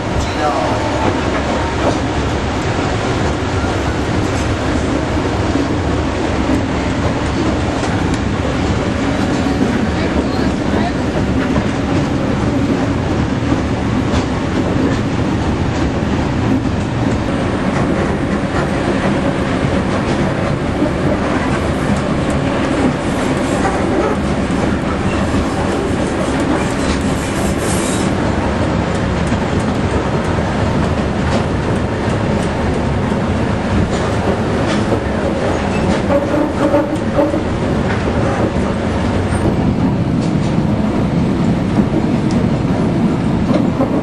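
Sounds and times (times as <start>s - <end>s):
train engine hum: 0.0s - 44.0s
wheels clacking over rail joints: 5.6s - 44.0s.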